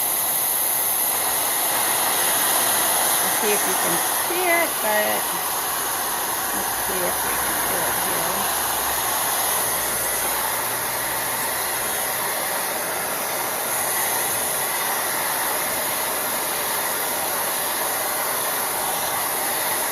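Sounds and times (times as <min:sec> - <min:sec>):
hair dryer blowing: 0:00.0 - 0:19.9.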